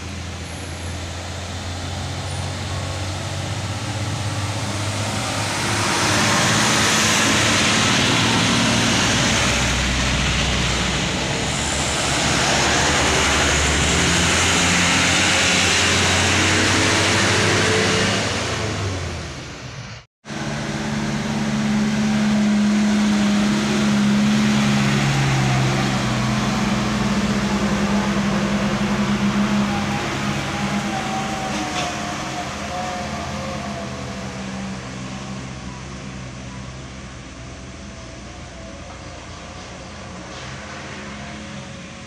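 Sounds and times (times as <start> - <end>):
heavy diesel trucks passing: 0.0 - 42.0.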